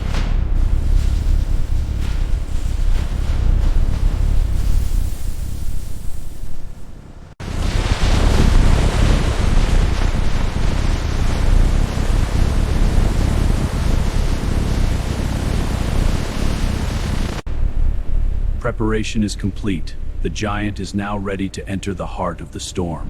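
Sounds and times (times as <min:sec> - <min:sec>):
heavy machinery rumble: 0:00.0 - 0:22.6.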